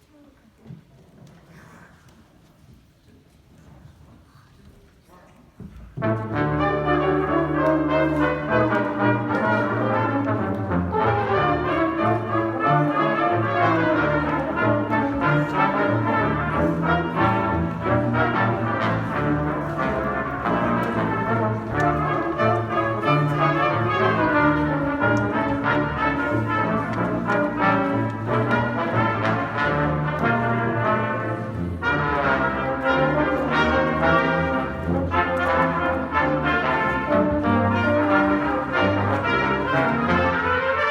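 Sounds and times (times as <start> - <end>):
trumpets and trombones melody: 6.0 - 40.9.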